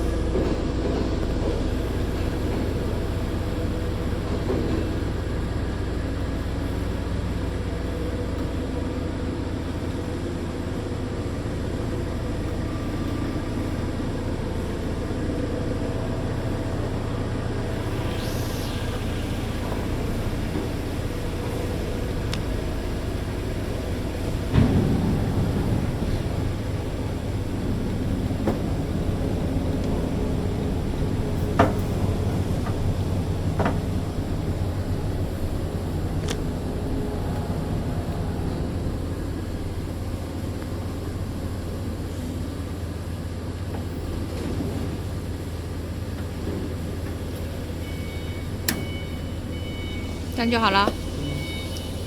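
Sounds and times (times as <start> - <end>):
factory machinery hum and rumble: 0.0 - 52.0.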